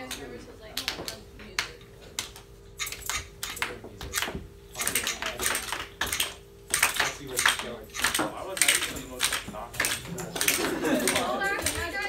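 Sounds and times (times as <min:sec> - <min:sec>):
steady hum: 0:00.0 - 0:12.0
typing on laptop keyboards: 0:01.6 - 0:12.0.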